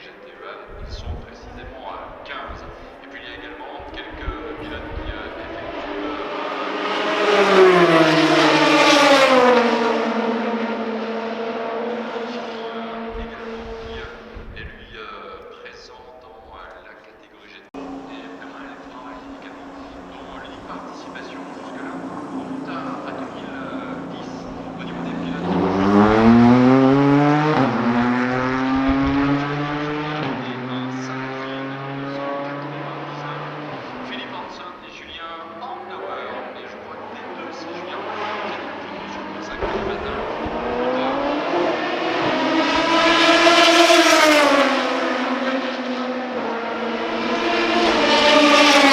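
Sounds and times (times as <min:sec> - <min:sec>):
race car passing at speed: 0:00.6 - 0:15.4, 0:17.8 - 0:48.9.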